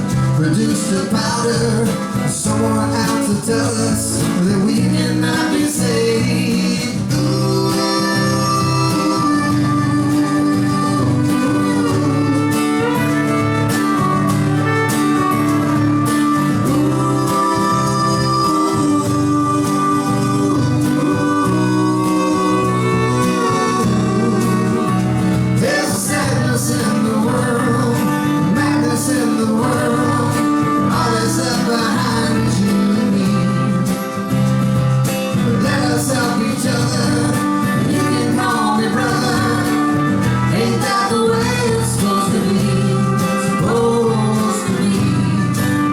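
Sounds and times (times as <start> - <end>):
acoustic guitar accompaniment: 0.0 - 45.9
fiddle playing: 7.1 - 45.9.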